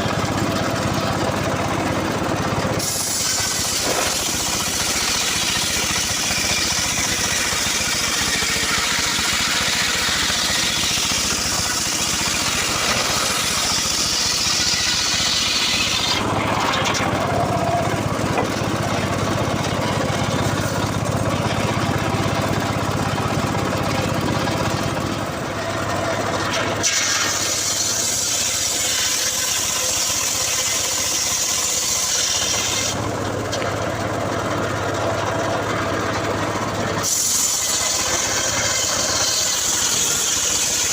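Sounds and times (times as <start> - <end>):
circular saw cutting wood: 0.0 - 40.9
engine droning: 0.0 - 40.9.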